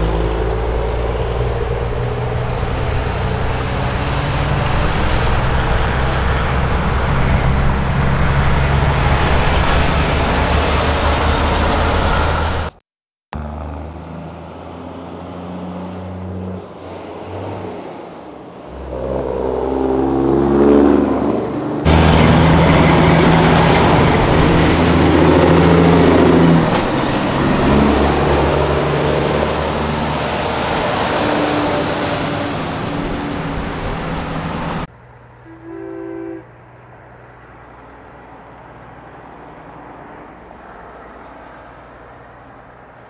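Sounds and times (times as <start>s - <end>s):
diesel trucks accelerating: 0.0s - 43.0s.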